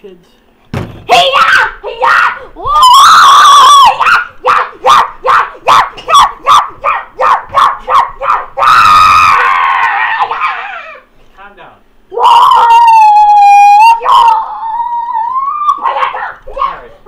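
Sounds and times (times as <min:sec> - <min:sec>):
child shouting: 0:01.1 - 0:11.0, 0:12.1 - 0:17.0
child's long loud cry: 0:01.2 - 0:06.6, 0:07.2 - 0:11.1, 0:12.1 - 0:16.8.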